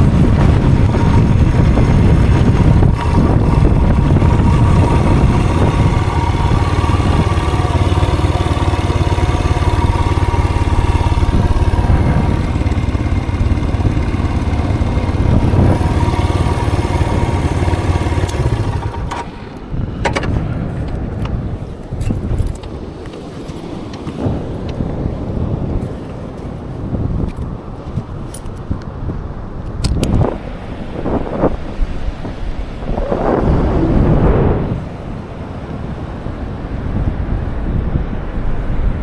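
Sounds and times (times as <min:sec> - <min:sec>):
vehicle low rumble: 0:00.0 - 0:39.0.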